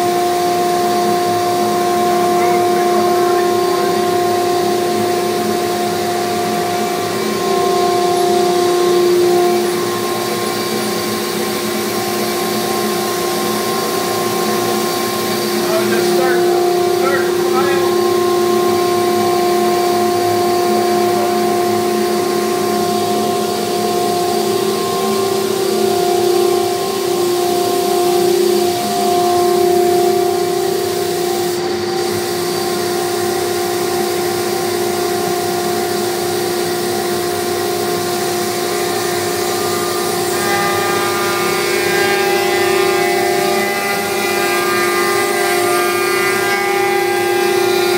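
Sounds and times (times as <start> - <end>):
router spindle whining: 0.0 - 47.9
vacuum system droning: 0.0 - 47.9.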